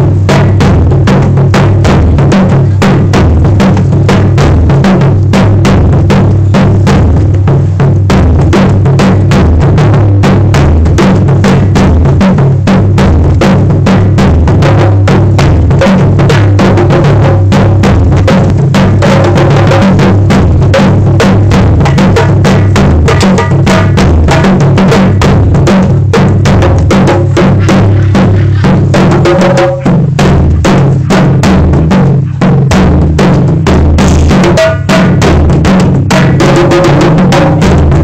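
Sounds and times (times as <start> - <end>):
loud fast drumming: 0.0 - 38.0.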